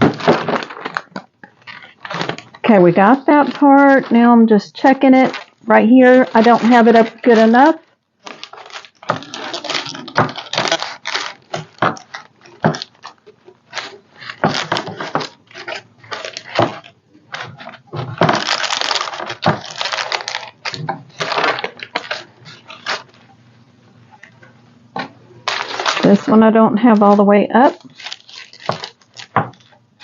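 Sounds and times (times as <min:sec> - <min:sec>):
paper crinkling and rustling: 0:00.0 - 0:23.4, 0:24.1 - 0:30.0.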